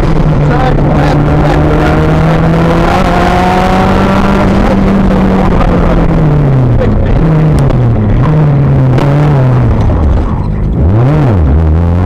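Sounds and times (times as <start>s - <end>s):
rally car engine: 0.0s - 12.0s
road and tyre noise: 0.0s - 12.0s.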